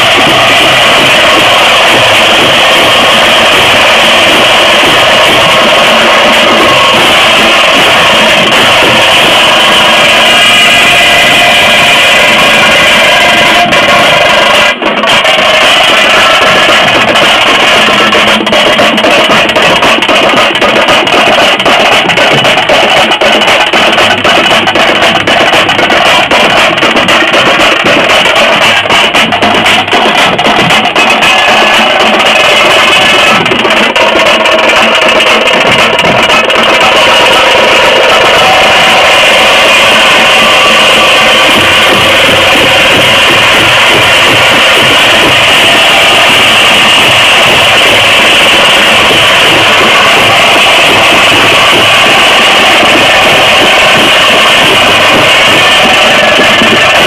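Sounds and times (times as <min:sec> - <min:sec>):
frame drums beaten with sticks: 0:00.0 - 0:57.0.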